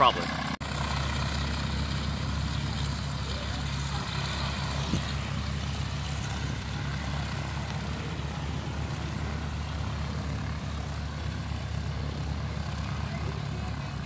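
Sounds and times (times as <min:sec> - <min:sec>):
propeller airplane engines droning: 0:00.0 - 0:14.0.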